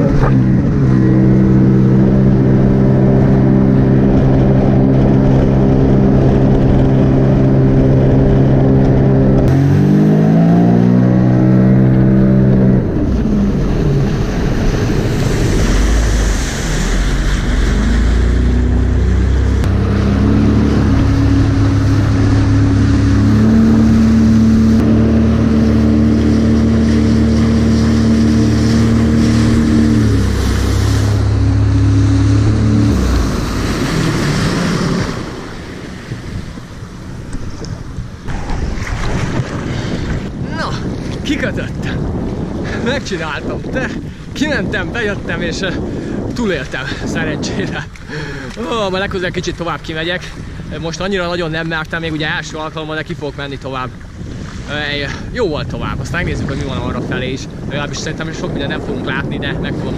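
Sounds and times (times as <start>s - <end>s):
jet ski engine running: 0.0s - 59.9s
water rushing and spraying: 0.0s - 59.9s.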